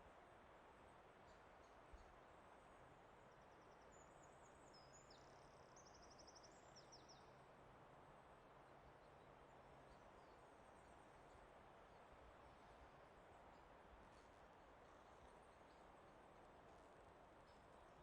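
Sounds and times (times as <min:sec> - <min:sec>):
soft steady hiss: 0:00.0 - 0:18.0.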